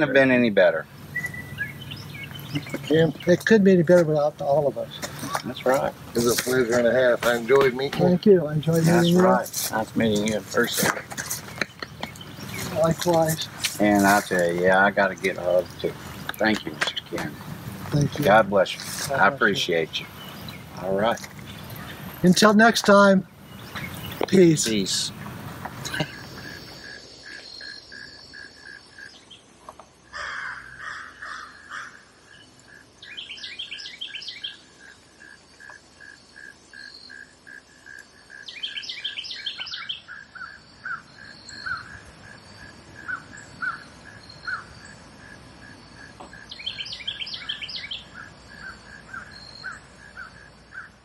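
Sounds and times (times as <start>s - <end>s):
bird calls: 0.0s - 51.0s
high insect trill: 0.0s - 51.0s
insects chirping: 0.0s - 51.0s.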